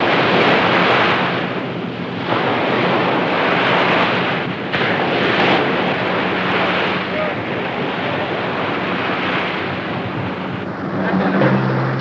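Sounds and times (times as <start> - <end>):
sea water rushing: 0.0 - 12.0
wind buffeting microphone: 0.0 - 12.0.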